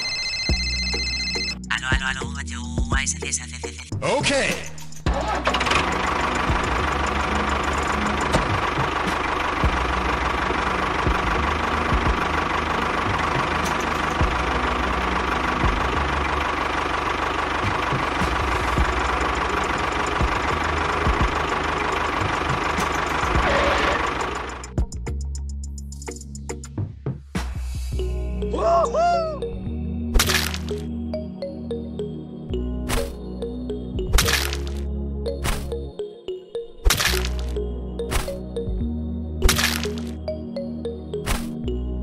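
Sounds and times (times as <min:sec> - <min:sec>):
tractor engine running: 0:00.0 - 0:02.6, 0:04.5 - 0:26.3, 0:30.2 - 0:36.0, 0:36.9 - 0:41.7.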